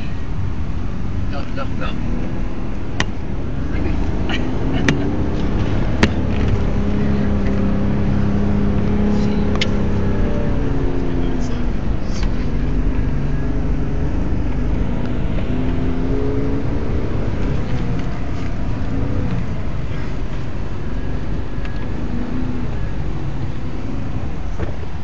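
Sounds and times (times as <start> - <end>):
vehicle engine revving: 0.8 - 25.0.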